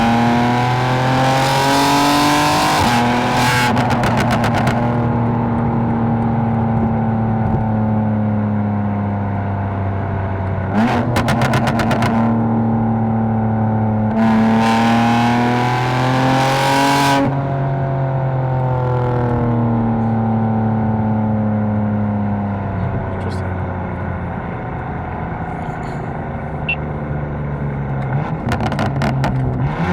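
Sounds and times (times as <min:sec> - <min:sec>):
car engine and exhaust: 0:00.0 - 0:29.9.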